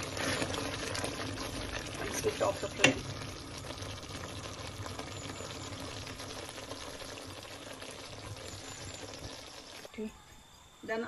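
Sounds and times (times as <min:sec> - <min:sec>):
sauce bubbling and popping: 0:00.0 - 0:10.0.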